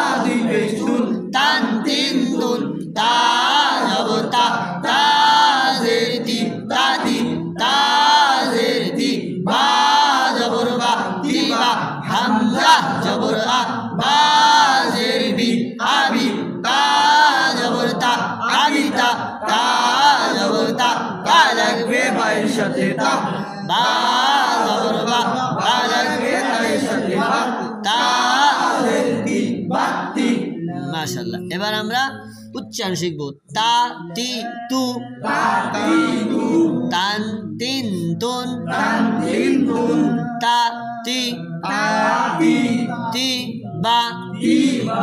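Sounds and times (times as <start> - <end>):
voices chanting in unison: 0.0 - 31.0, 34.4 - 37.3, 38.5 - 45.0.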